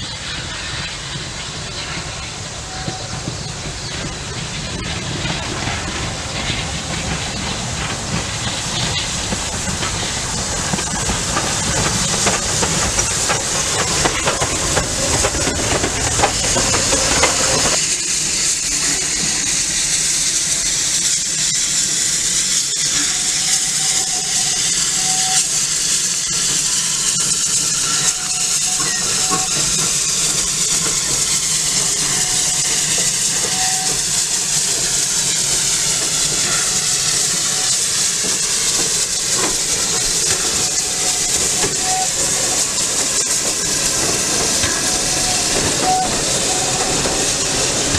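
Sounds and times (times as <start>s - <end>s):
steam hissing: 0.0s - 47.9s
steam locomotive rumble: 0.0s - 47.9s.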